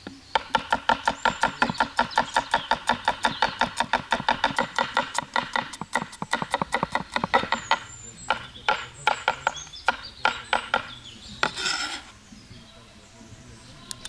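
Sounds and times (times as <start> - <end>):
knife chopping on cutting board: 0.4 - 11.8.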